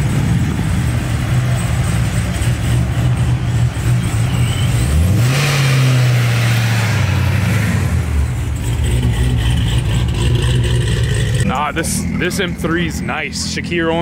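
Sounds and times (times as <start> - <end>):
car exhaust revving: 0.0 - 14.0.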